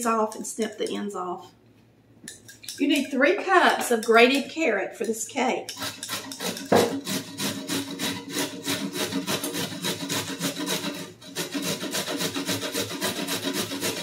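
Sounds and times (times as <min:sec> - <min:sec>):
carrots grated on metal grater: 0:02.7 - 0:14.0.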